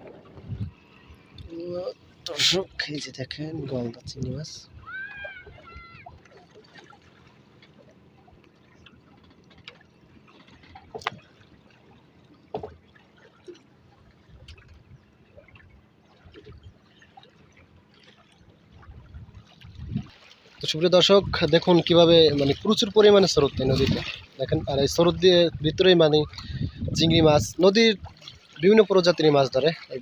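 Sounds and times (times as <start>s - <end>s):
water lapping against boat: 0.0s - 30.0s.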